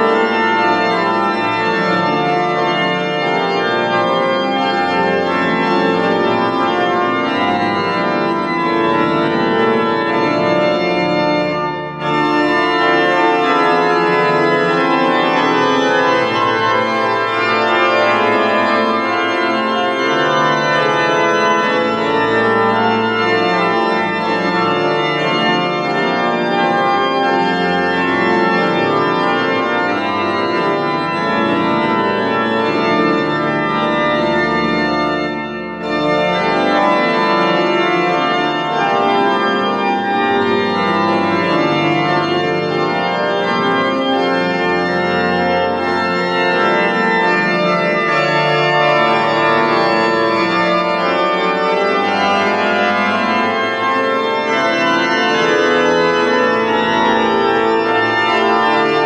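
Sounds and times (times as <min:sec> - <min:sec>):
pipe organ playing loud chords: 0:00.0 - 0:59.0.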